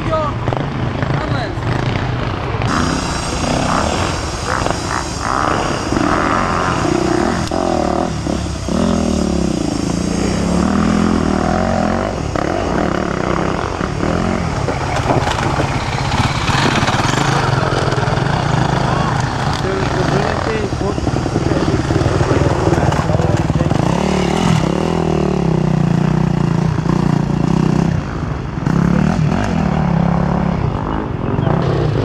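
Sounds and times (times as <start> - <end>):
motorcycles revving: 0.0 - 32.0.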